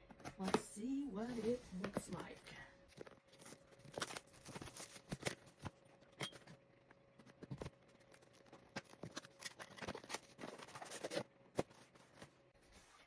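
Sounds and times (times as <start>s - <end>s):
packaging clicks and rustles: 1.3s - 12.4s.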